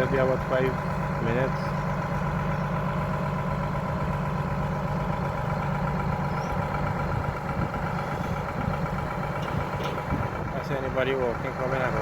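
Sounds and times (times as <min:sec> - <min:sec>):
large engine idling: 0:00.0 - 0:12.0.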